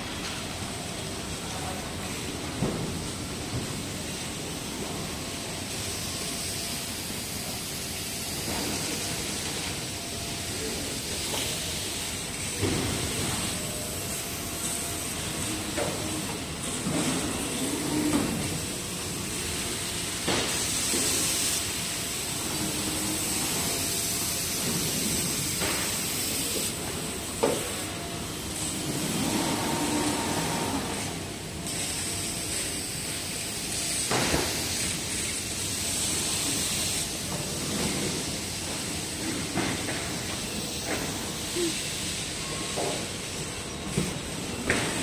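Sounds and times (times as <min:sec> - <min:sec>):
machinery hiss: 0:00.0 - 0:45.0.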